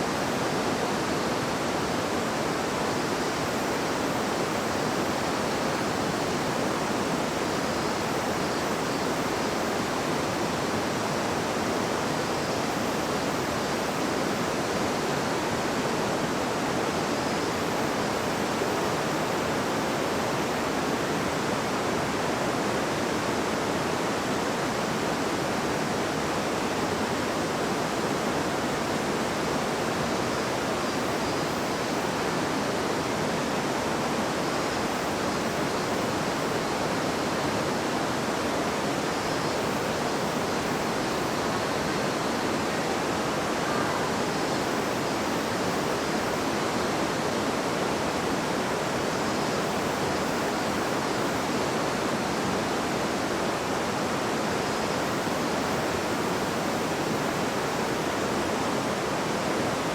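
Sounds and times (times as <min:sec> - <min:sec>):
river water rushing over stones: 0:00.0 - 0:59.9.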